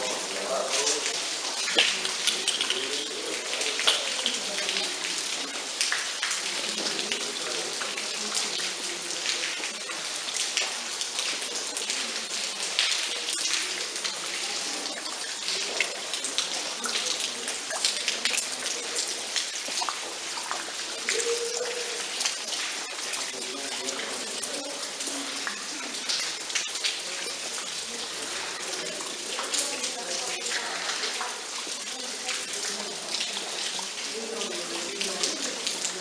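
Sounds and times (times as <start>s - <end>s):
raindrops hitting close by: 0.0s - 36.0s
steady rain: 0.0s - 36.0s.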